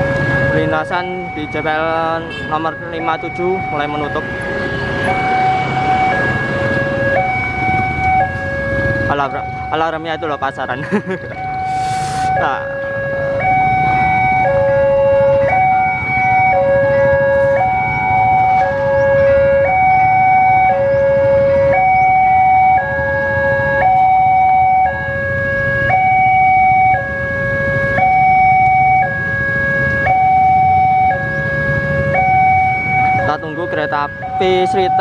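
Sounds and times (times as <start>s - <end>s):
motorcycle engines rumbling: 0.0s - 35.0s
two-tone crossing alarm: 0.0s - 35.0s.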